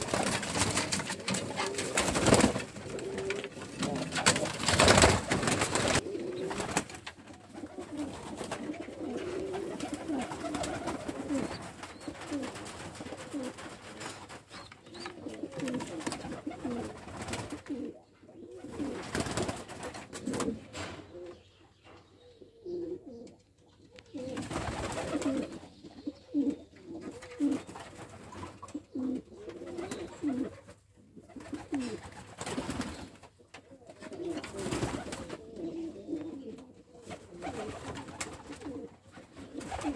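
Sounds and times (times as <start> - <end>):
pigeons cooing: 0.0 - 13.7, 14.5 - 39.9.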